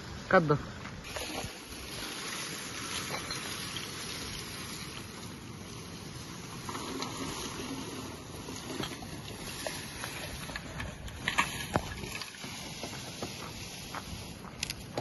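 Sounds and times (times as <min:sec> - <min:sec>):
dry branches dragged over gravel: 0:00.4 - 0:15.0.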